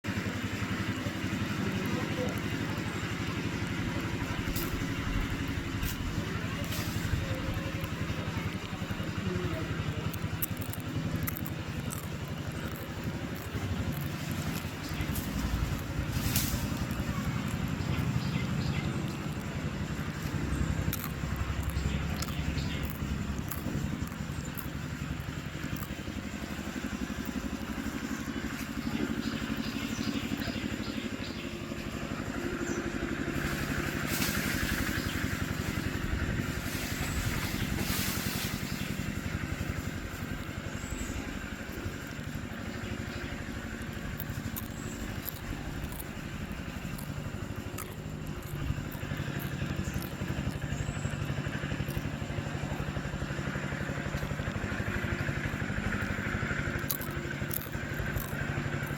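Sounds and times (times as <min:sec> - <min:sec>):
vehicle engine running: 0:00.0 - 0:58.9.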